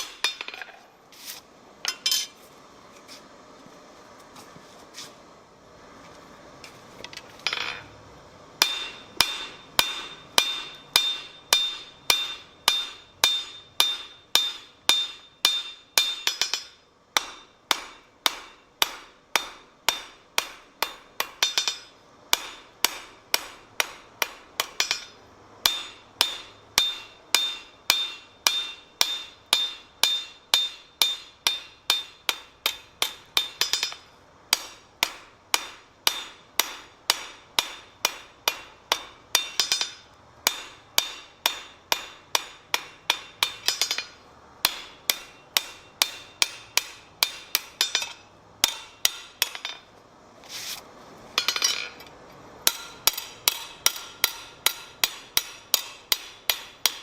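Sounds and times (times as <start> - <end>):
hammer ringing on anvil: 8.6 - 49.9, 52.6 - 57.0.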